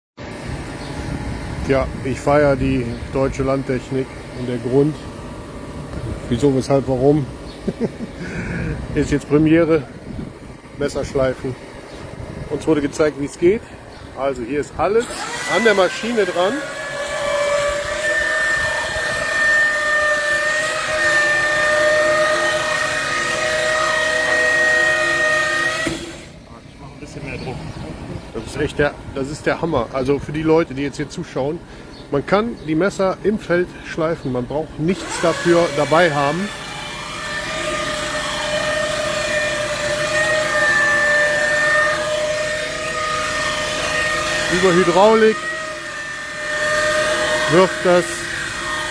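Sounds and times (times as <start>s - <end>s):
knife grinder whine: 0.2s - 26.4s, 34.8s - 48.9s.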